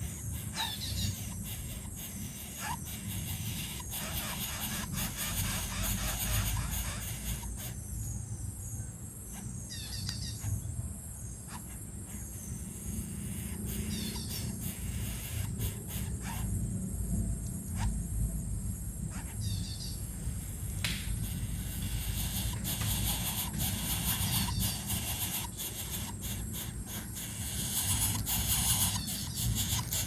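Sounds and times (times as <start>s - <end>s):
bird chirping: 0.0s - 16.6s, 19.1s - 30.0s
insects droning: 0.0s - 30.0s.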